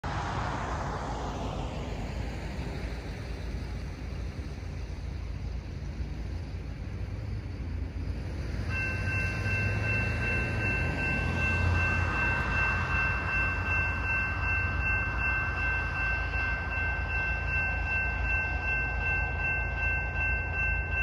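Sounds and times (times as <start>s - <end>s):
passing road noise: 0.0s - 21.0s
railroad crossing warning bell: 2.6s - 21.0s.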